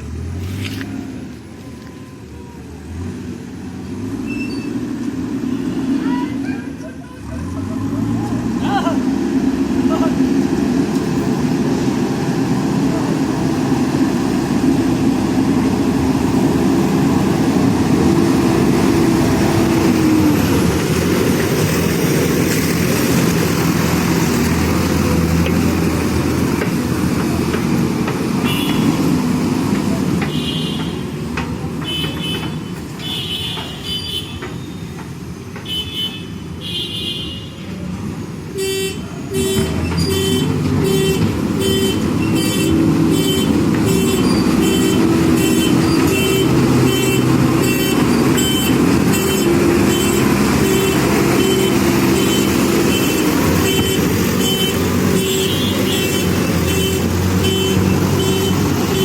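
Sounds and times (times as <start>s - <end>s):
diesel engine running: 4.8s - 33.0s, 38.1s - 59.0s.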